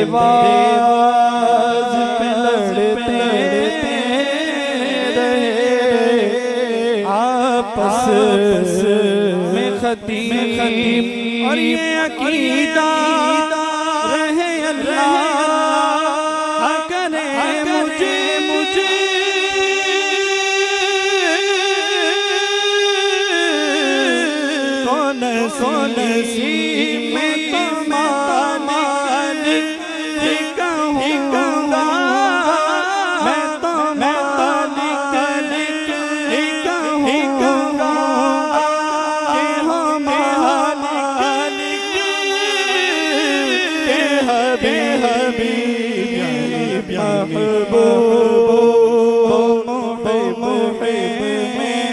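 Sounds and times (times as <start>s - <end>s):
man singing into a microphone: 0.0s - 51.9s.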